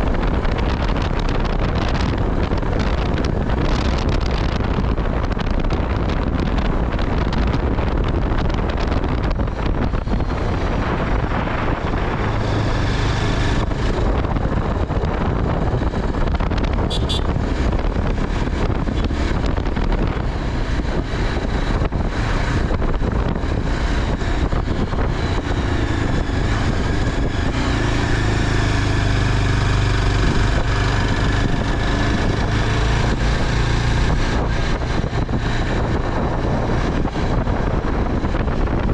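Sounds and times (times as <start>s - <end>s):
vehicle running: 0.0s - 38.9s
wind rushing over microphone: 0.0s - 38.9s.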